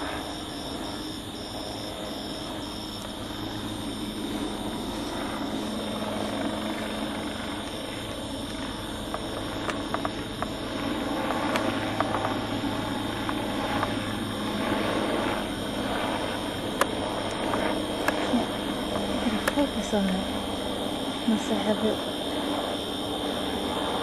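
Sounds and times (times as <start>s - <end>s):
helicopter flying overhead: 0.0s - 24.0s.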